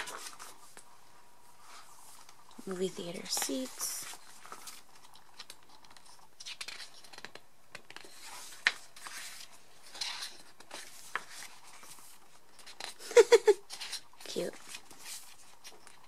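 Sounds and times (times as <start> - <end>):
book pages turning: 0.0 - 13.0, 13.6 - 16.0.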